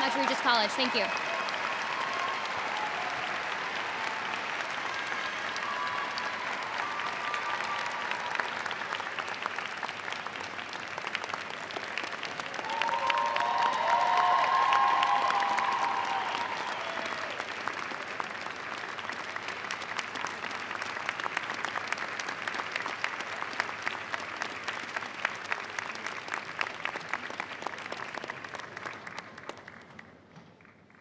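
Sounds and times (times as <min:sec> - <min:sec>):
crowd applauding: 0:00.0 - 0:31.0.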